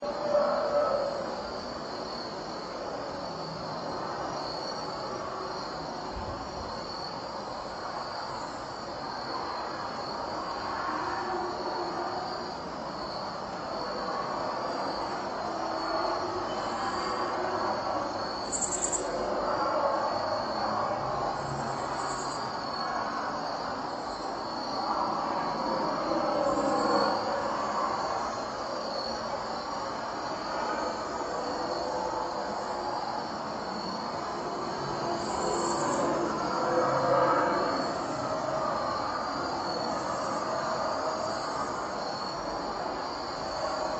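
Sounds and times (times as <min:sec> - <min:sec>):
crickets chirping: 0:00.0 - 0:43.9
outdoor night hiss: 0:00.7 - 0:43.9.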